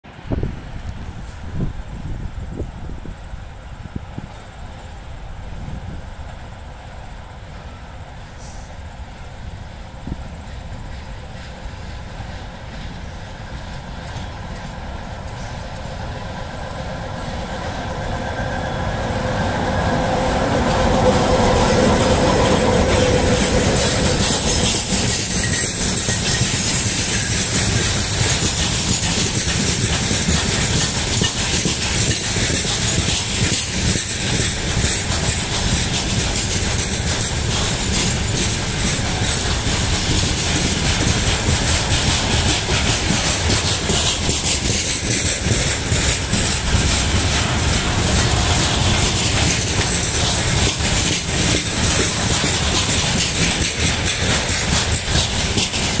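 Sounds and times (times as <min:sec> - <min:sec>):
steady locomotive hum: 0:00.0 - 0:56.0
electric locomotive passing: 0:00.1 - 0:56.0
wheels clacking over rail joints: 0:10.0 - 0:56.0.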